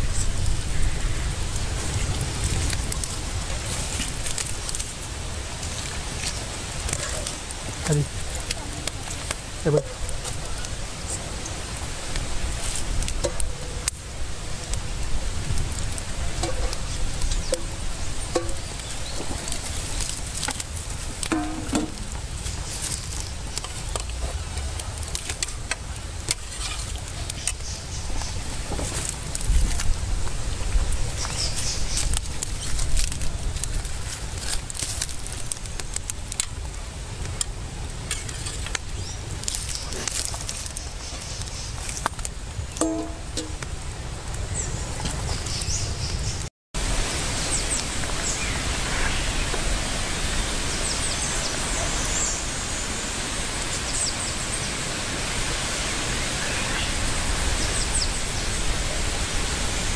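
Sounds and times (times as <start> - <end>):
steady low rumble: 0.0 - 34.8, 35.5 - 51.9
wood fire crackling: 0.0 - 56.1.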